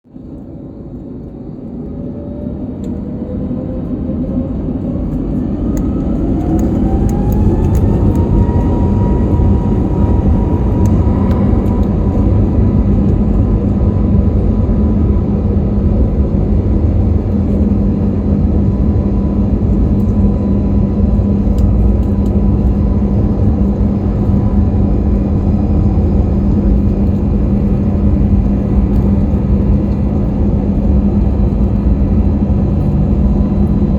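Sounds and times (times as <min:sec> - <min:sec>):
loud continuous takeoff rumble: 0:00.0 - 0:33.9
jet engine whine rising: 0:00.1 - 0:33.9.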